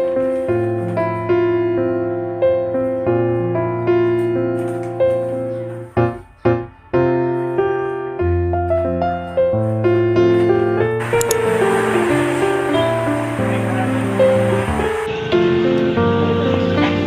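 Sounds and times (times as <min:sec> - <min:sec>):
soft slow piano music: 0:00.0 - 0:17.0.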